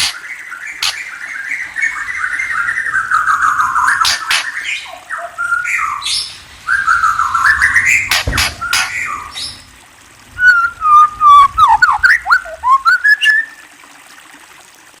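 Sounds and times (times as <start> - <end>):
songbird whistling: 0.0 - 9.6, 10.4 - 13.6.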